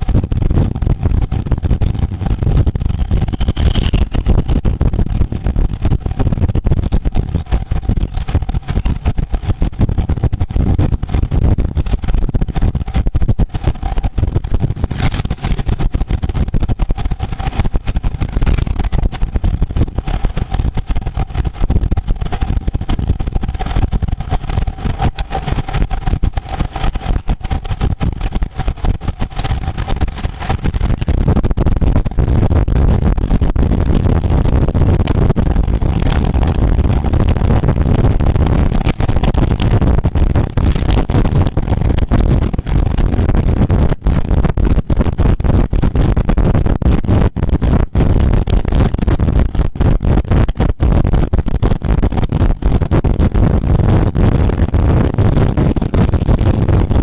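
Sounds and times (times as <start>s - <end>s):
faint steady whine: 0.0s - 57.0s
wind buffeting microphone: 0.0s - 57.0s.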